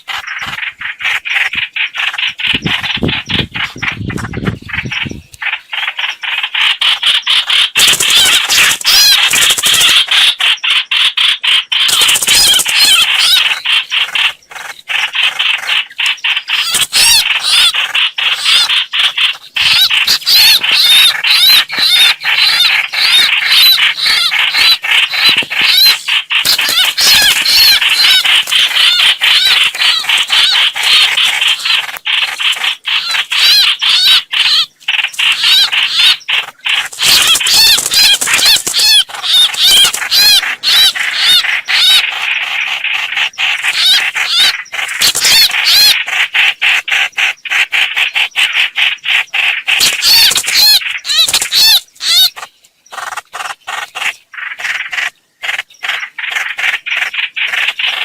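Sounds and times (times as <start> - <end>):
chattering bird chirps: 0.0 - 58.0.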